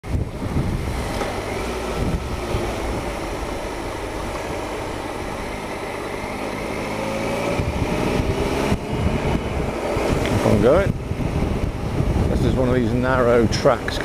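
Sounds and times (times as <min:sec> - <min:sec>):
low rumble on microphone: 0:00.0 - 0:14.0
motorcycle engine running: 0:00.0 - 0:14.0.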